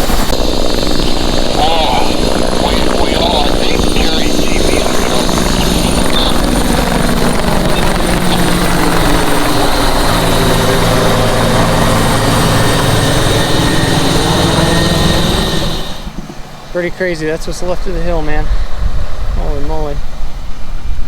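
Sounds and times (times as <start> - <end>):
helicopter flying: 0.0 - 21.0
high engine whine: 0.0 - 21.0.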